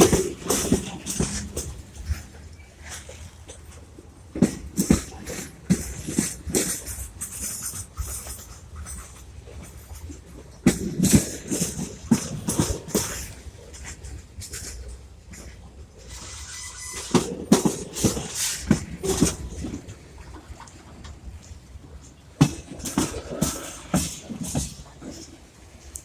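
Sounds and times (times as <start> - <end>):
low train rumble: 0.0 - 26.0
train cars clattering over rail joints: 0.0 - 26.0.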